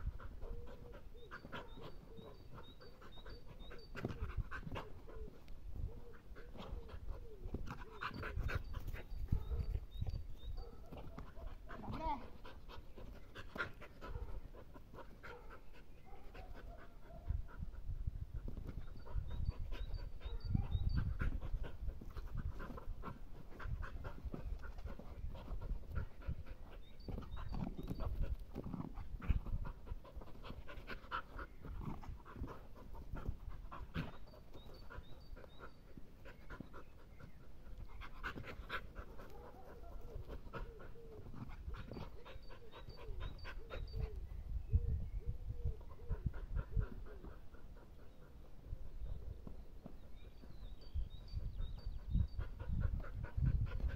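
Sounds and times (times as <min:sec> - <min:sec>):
dog panting hard: 0:00.0 - 0:05.5, 0:06.1 - 0:09.8, 0:10.9 - 0:44.2, 0:45.8 - 0:49.6, 0:50.2 - 0:53.9.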